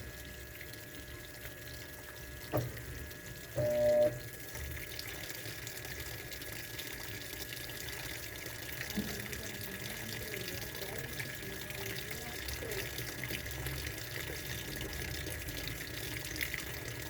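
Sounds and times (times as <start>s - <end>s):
water rushing into washing machine: 0.0s - 17.0s.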